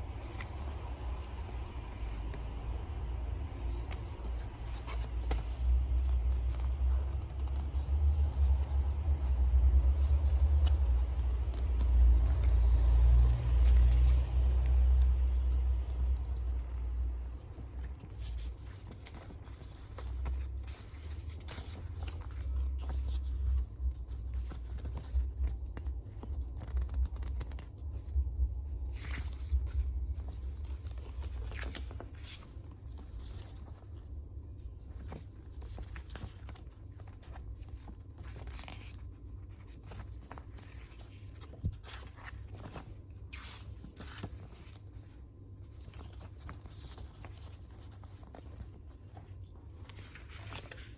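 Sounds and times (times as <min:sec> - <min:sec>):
low steady rumble: 0:00.0 - 0:50.9
paper and plastic rustling: 0:00.0 - 0:50.9.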